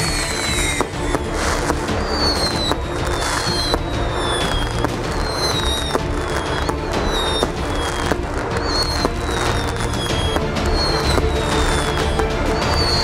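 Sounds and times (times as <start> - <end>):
fireworks bangs and pops: 0.0 - 13.0
high falling whistles: 0.0 - 13.0
music: 0.0 - 13.0.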